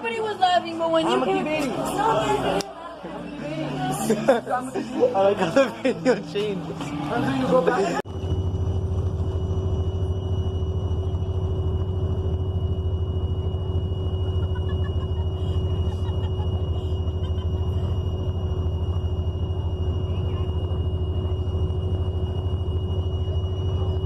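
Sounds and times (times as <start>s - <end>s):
constant hum: 0.0s - 24.0s
vehicle engine and road drone: 1.6s - 24.0s.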